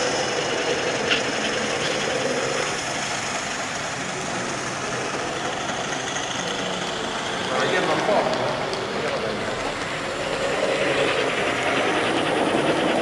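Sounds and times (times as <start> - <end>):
model diesel engine idling hum: 0.0 - 13.0.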